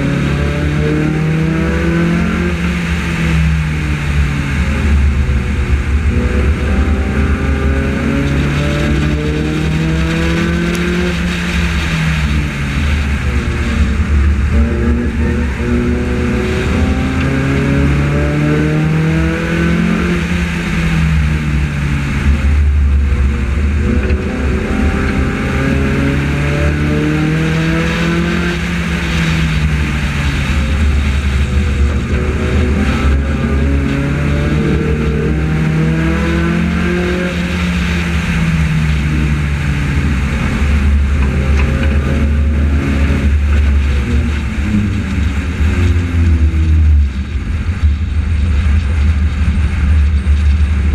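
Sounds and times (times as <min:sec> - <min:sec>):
low rumble of road and wind: 0:00.0 - 0:50.9
race car engine revving: 0:00.0 - 0:50.9.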